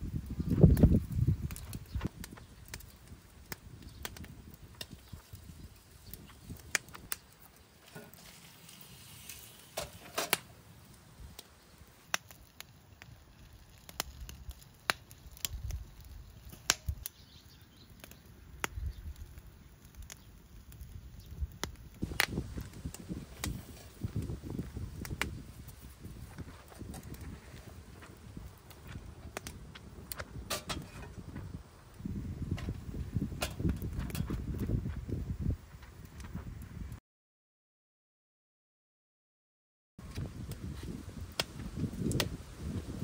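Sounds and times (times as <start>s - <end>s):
fire popping and snapping: 0.0s - 37.0s, 40.0s - 43.0s
wood fire crackling: 0.0s - 37.0s, 40.0s - 43.0s.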